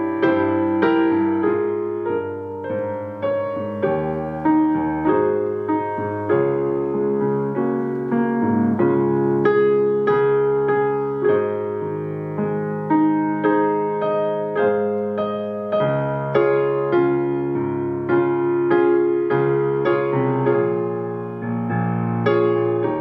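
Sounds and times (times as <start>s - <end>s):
solo piano chords: 0.0s - 23.0s.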